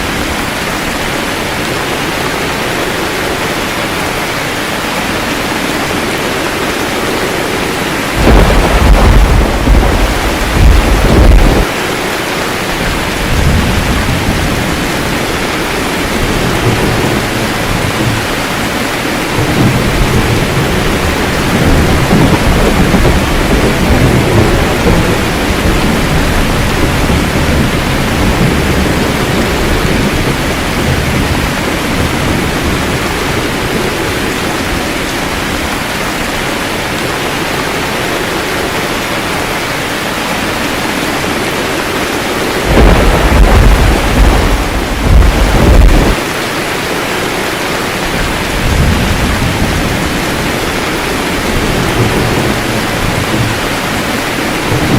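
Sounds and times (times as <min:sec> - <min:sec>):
heavy rain: 0:00.0 - 0:54.9
thunder rumbling: 0:00.0 - 0:54.9.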